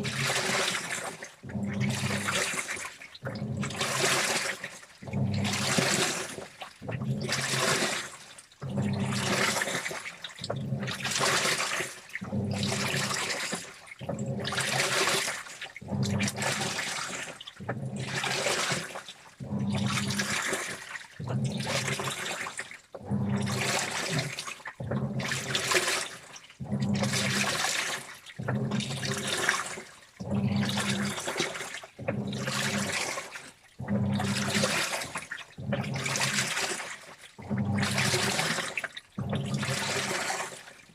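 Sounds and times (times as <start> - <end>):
washing machine motor hum: 0.0 - 40.7.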